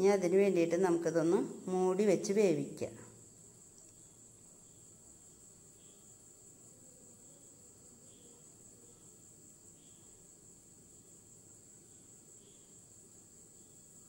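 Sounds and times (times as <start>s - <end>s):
faint high-pitched whine: 0.0s - 14.0s.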